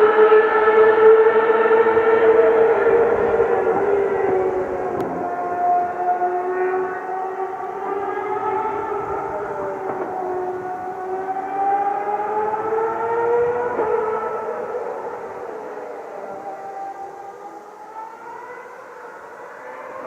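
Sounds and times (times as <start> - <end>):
distant racing car engine whining: 0.0 - 20.0.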